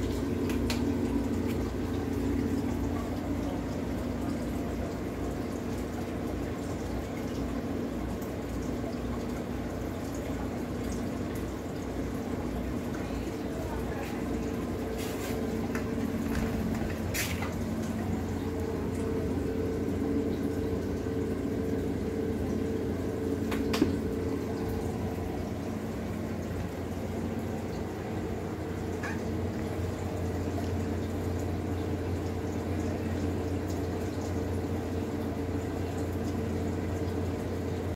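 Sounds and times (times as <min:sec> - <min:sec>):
aquarium pump humming: 0:00.0 - 0:37.9
water trickling and bubbling: 0:00.0 - 0:37.9.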